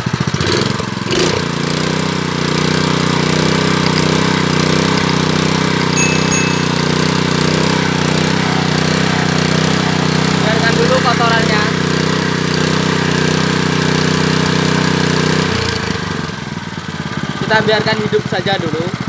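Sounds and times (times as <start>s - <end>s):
petrol engine running: 1.6s - 18.2s.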